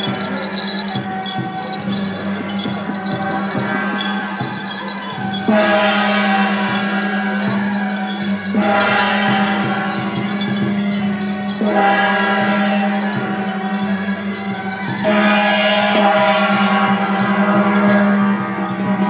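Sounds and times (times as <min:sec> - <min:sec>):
gong ringing: 0:00.0 - 0:18.6.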